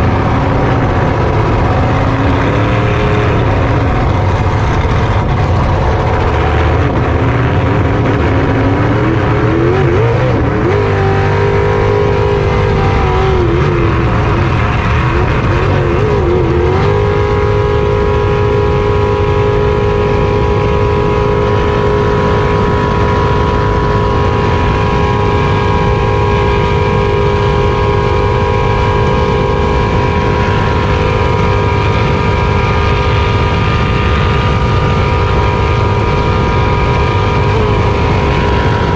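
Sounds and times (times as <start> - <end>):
jet boat engine running: 0.0 - 38.9
low rumble of hull and water: 0.0 - 38.9.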